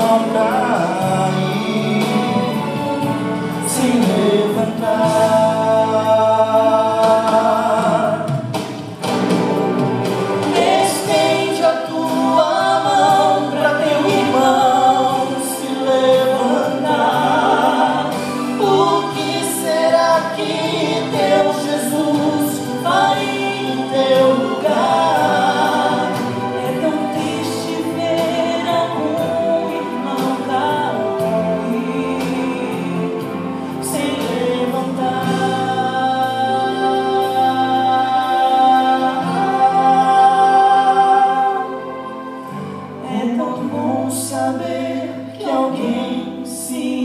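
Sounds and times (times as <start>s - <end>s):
man and woman singing duet: 0.0s - 8.8s, 10.4s - 47.0s
musical accompaniment: 0.0s - 47.0s.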